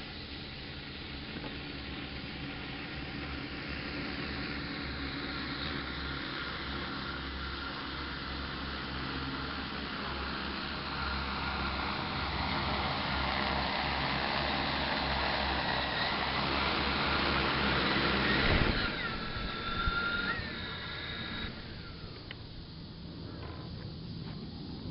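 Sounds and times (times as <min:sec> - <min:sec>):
drone propellers whirring: 0:00.0 - 0:24.9.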